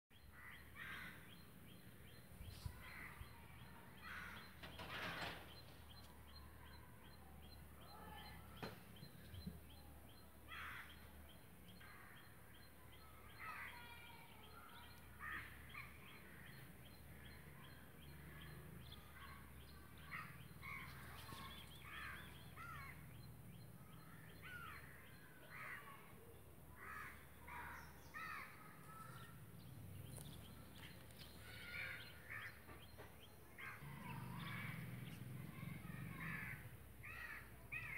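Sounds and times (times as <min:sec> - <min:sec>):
birds calling: 0:00.1 - 0:37.9.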